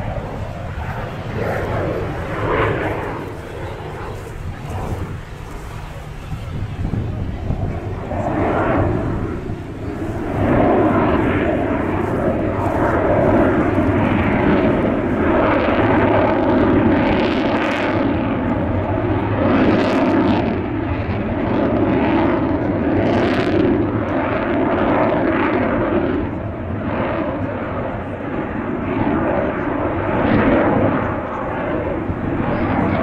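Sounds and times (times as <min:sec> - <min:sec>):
helicopter turbine and rotor rumble: 0:00.0 - 0:33.0.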